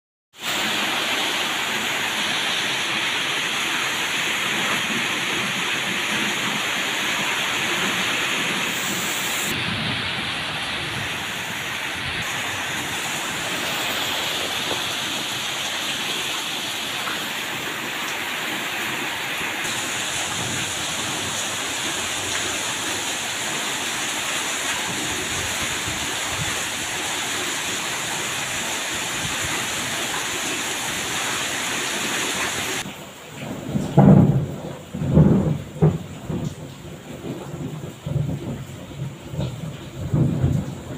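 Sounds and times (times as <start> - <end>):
heavy rain pouring: 0.3 - 40.9.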